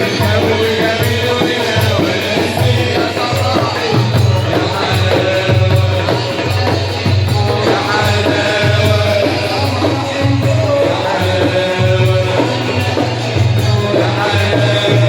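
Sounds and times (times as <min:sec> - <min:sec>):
folk band playing: 0:00.0 - 0:15.0
person singing: 0:00.0 - 0:15.0.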